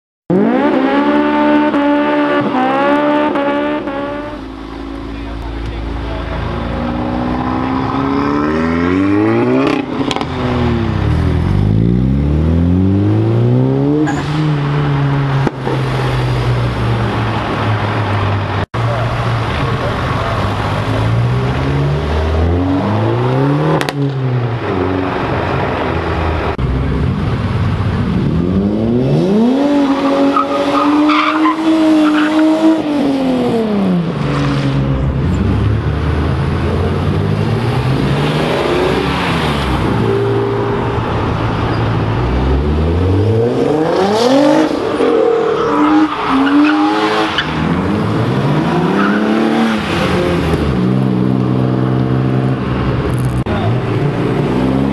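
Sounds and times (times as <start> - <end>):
car engines revving hard: 0.3 - 54.9.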